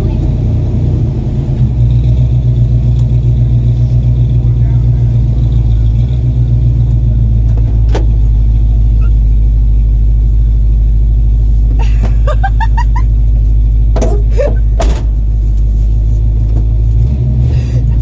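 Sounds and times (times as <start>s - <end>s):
truck engine rumbling: 0.0s - 18.0s.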